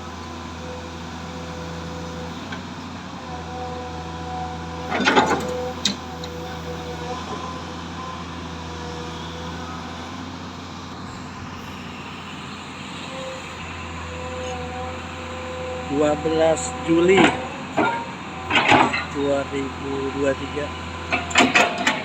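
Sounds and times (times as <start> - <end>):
excavator engine idling: 0.0 - 22.0.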